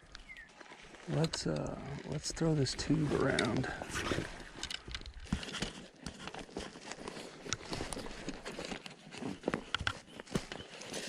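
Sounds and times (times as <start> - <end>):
crackling and crunching: 0.0 - 11.0.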